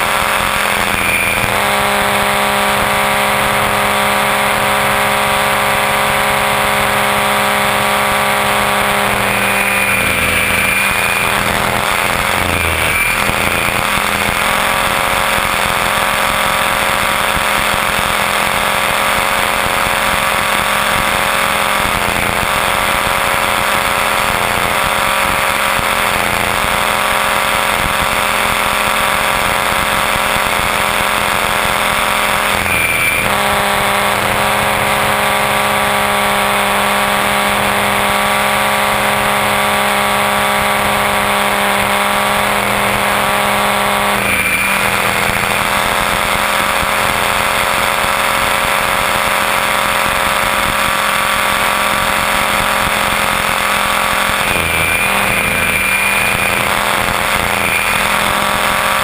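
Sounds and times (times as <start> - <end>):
rc helicopter motor whine: 0.0 - 59.0.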